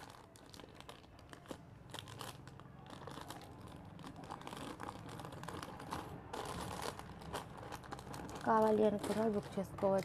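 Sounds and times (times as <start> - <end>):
plastic packets crinkling: 0.0 - 10.0.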